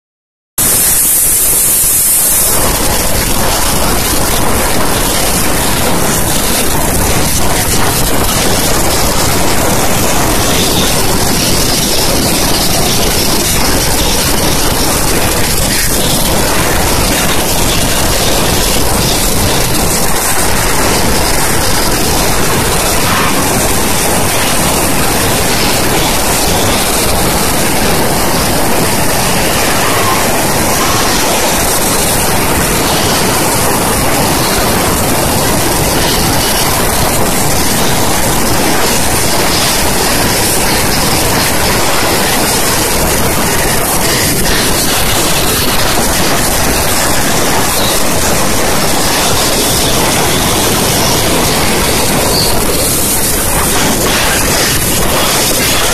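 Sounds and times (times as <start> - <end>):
steam jet hissing: 0.6 - 55.9.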